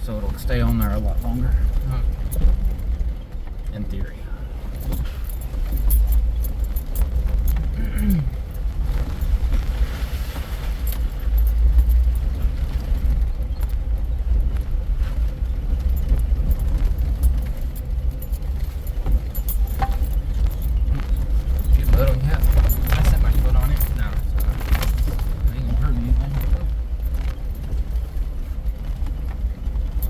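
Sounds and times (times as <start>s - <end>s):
light clicks and rattles: 0.0s - 30.0s
vehicle engine rumble: 0.0s - 30.0s.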